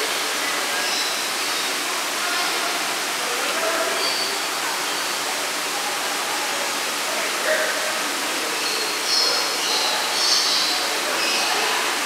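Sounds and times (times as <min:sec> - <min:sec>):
faint voices: 0:00.0 - 0:12.0
indoor waterfall rushing: 0:00.0 - 0:12.0.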